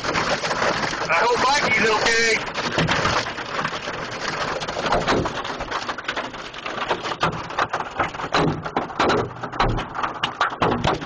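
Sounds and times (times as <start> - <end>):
hail clattering on hard surfaces: 0.0 - 11.0
rain: 0.0 - 11.0.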